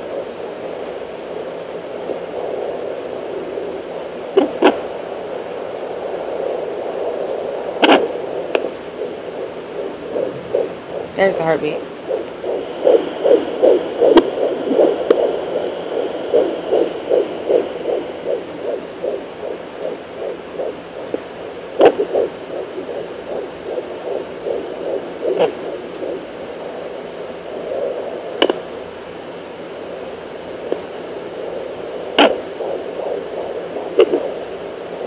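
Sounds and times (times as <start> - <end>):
fetal heartbeat whooshing pulses: 0.0 - 35.0.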